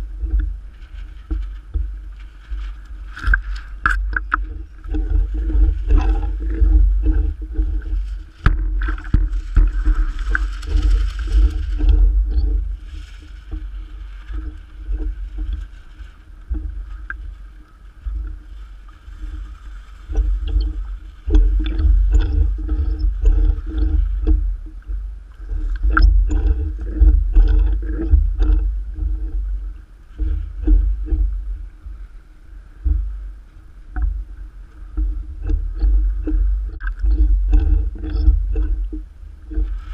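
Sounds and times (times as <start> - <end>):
low rumble of wind: 0.0 - 39.9
water slapping and gurgling: 0.0 - 39.9.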